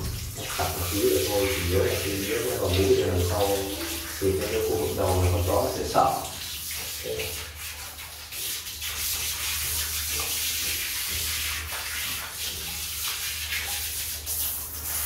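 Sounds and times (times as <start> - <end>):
hose water spraying and splashing: 0.0 - 15.0.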